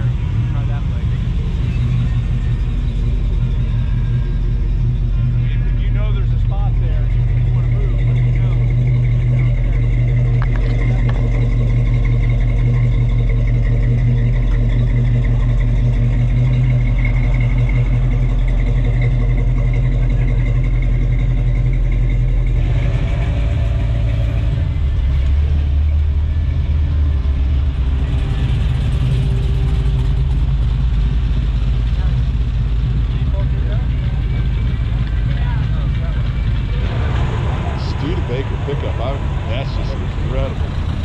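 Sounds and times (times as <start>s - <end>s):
car driving slowly past: 0.0s - 41.0s
car engine idling: 0.0s - 41.0s.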